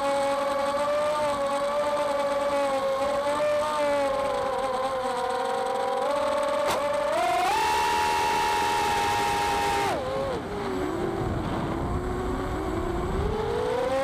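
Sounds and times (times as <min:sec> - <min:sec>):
quadcopter motors buzzing whine: 0:00.0 - 0:14.0.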